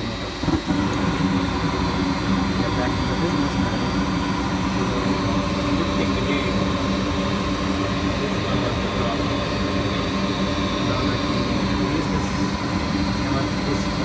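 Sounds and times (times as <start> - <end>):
gas furnace humming: 0.0 - 14.0.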